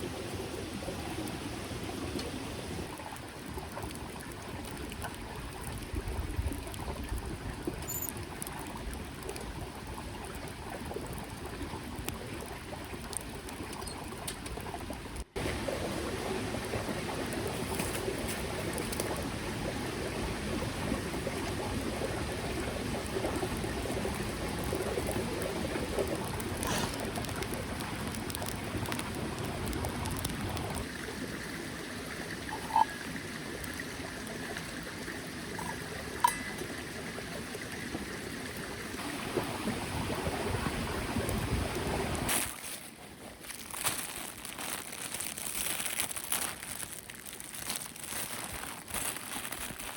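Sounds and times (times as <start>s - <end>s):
stream flowing: 0.0s - 49.9s.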